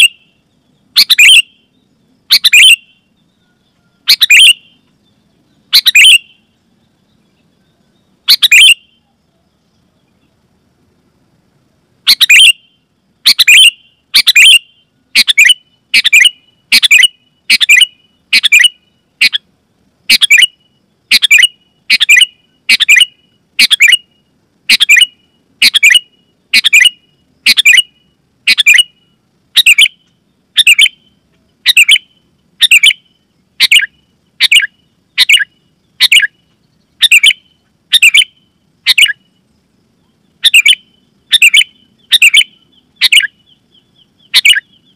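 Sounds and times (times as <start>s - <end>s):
bulbul bright calls: 0.0s - 9.5s, 12.0s - 19.4s, 20.1s - 44.9s.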